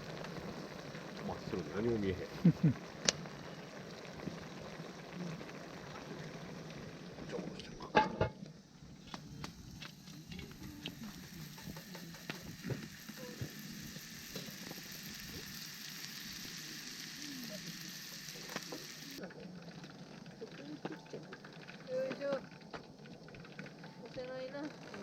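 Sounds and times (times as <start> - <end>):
fire sizzling and crackling: 0.0 - 25.0.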